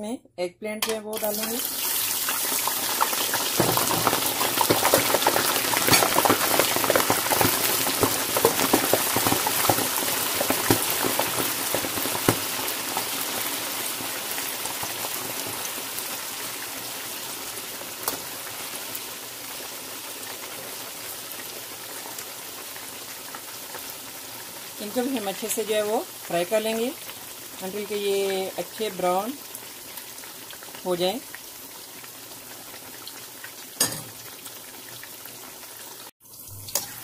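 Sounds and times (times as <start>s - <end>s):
vegetables deep-frying in oil: 0.8s - 37.0s.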